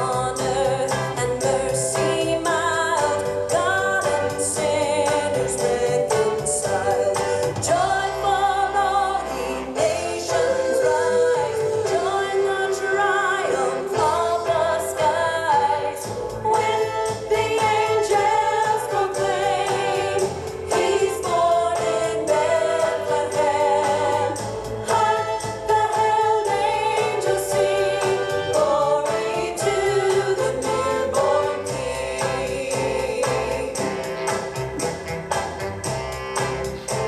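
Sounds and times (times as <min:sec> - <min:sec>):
choir singing: 0:00.0 - 0:37.0
instrumental backing: 0:00.0 - 0:37.0.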